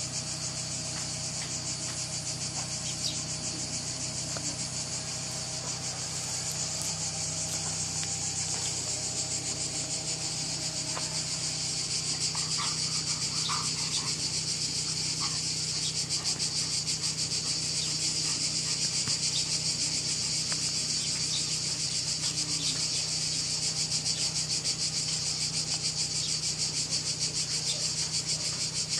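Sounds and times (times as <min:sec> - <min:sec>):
high-pitched insect chorus: 0:00.0 - 0:28.9.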